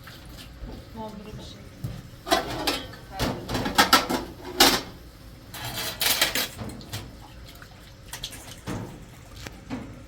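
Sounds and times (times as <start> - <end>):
water splashing in a sink: 0.0 - 10.0.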